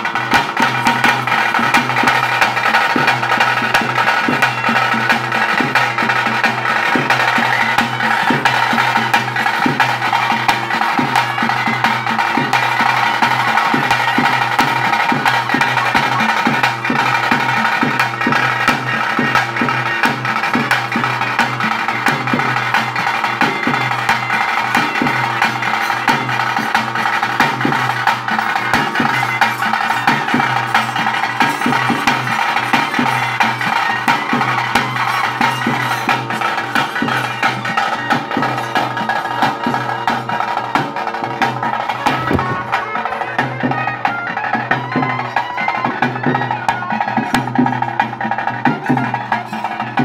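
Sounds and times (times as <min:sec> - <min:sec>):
fast ritual drumming: 0:00.0 - 0:50.0
wind instrument held tone: 0:00.0 - 0:50.0.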